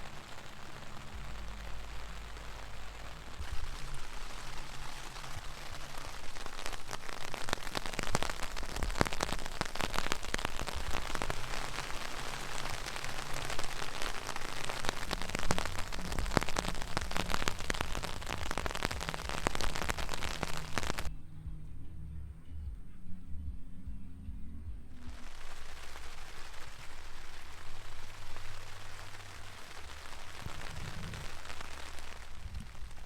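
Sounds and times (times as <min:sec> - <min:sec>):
rain pattering on a surface: 0:00.0 - 0:21.1, 0:25.0 - 0:33.0.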